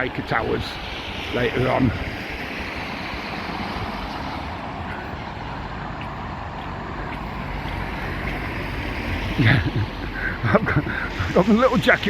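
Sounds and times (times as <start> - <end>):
outdoor rushing noise: 0.0 - 12.0.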